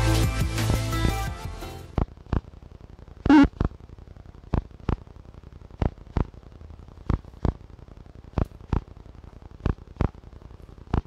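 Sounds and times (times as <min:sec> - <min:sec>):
low hiss: 0:00.6 - 0:11.0.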